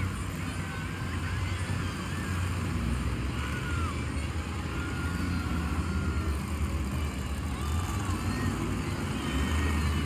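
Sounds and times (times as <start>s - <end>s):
faint crowd: 0.0s - 10.0s
truck engine low rumble: 0.0s - 10.0s.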